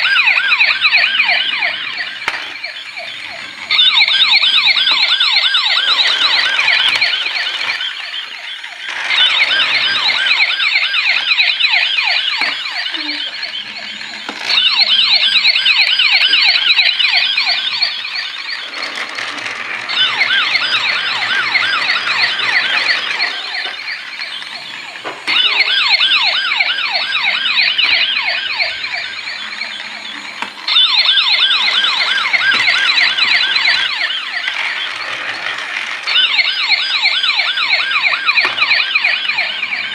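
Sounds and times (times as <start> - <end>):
toy siren warbling wail: 0.0 - 39.9.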